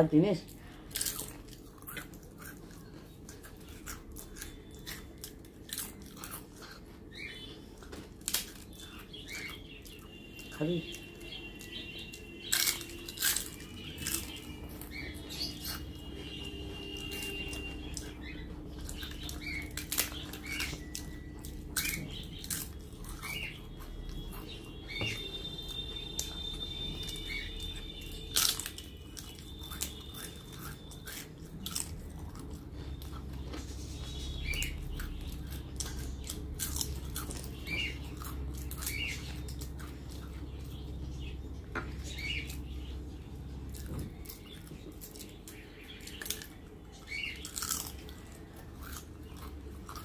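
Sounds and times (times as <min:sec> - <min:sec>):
chewing and crunching: 0:00.0 - 0:50.0
small birds chirping: 0:00.0 - 0:50.0.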